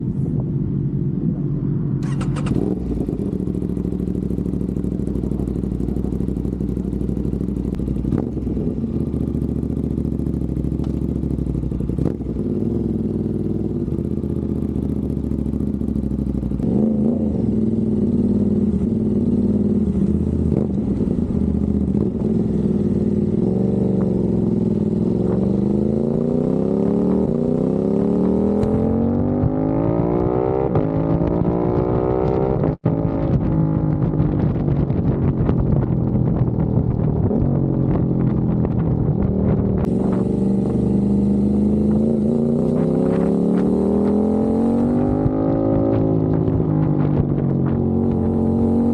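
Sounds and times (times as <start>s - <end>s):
motorcycle engine idling and revving: 0.0s - 48.9s.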